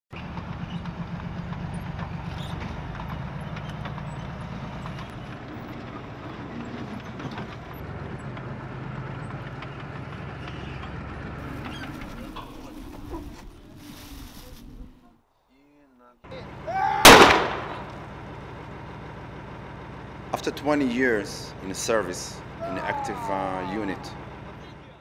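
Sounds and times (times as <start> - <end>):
tank engine droning: 0.1 - 15.3, 16.3 - 25.0.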